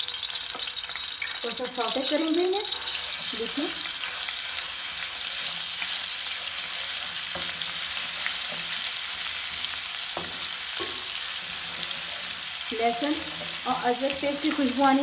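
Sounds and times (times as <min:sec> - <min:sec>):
paste sizzling in hot fat: 0:00.0 - 0:15.0.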